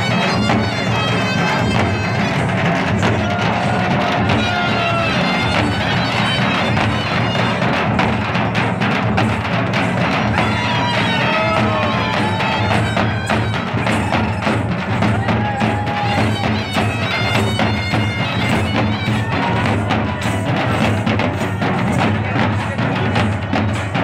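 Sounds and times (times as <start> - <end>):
hand drums beaten in fast rhythm: 0.0 - 24.0.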